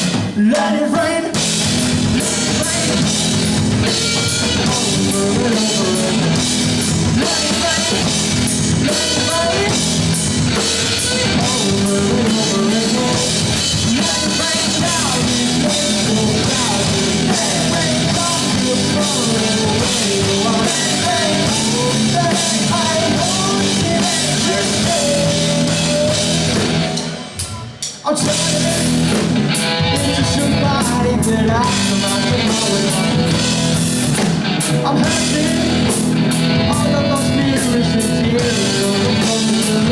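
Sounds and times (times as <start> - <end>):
drum kit: 0.0 - 39.9
electric guitar: 0.0 - 39.9
person singing: 0.3 - 1.6, 2.2 - 3.2, 4.1 - 10.0, 10.6 - 29.3, 29.9 - 33.8, 34.8 - 39.9.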